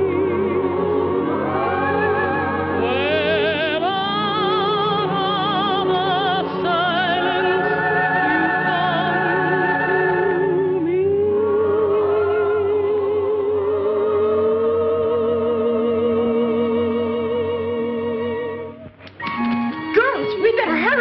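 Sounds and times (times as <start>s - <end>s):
orchestral accompaniment: 0.0s - 14.4s, 18.2s - 21.0s
woman singing with vibrato: 0.0s - 18.8s.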